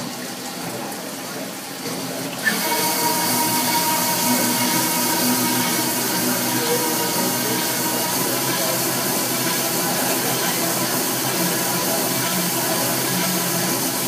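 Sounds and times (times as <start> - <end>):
honing machine hissing: 2.4 - 14.0.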